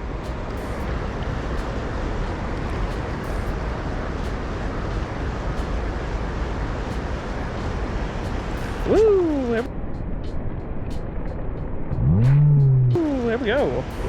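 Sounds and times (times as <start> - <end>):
road traffic hiss and rumble: 0.0 - 14.0.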